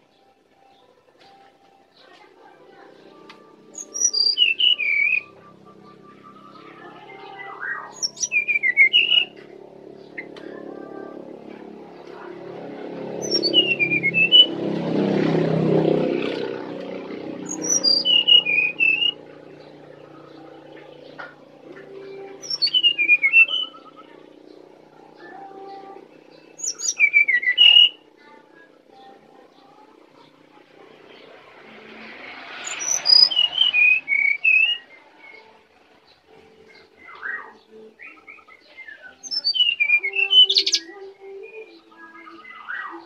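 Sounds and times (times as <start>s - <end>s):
bird singing: 0.0s - 43.0s.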